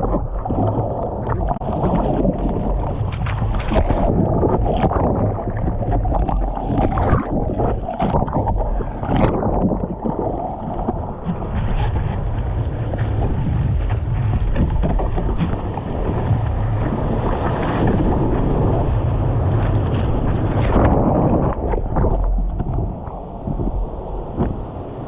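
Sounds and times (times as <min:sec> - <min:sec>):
low rumble: 0:00.0 - 0:25.0
rushing water splashing: 0:00.0 - 0:25.0
wind buffeting microphone: 0:00.0 - 0:25.0.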